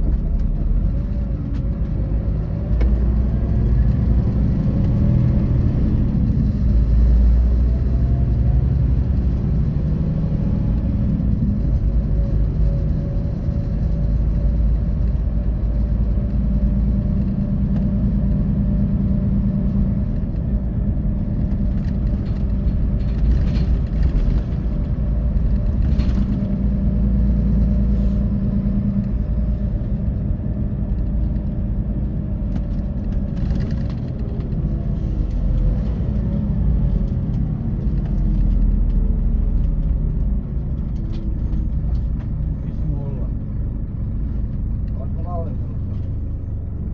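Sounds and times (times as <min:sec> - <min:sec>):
bus diesel engine: 0:00.0 - 0:46.9
road rumble: 0:00.0 - 0:46.9.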